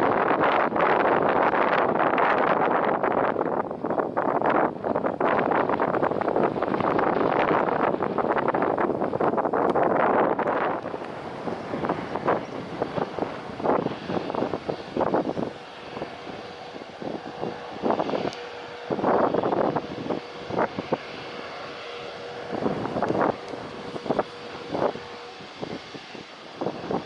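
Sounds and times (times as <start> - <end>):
jet engine noise: 0.0 - 27.0
wind buffeting microphone: 0.0 - 27.0
steady hum: 4.8 - 27.0.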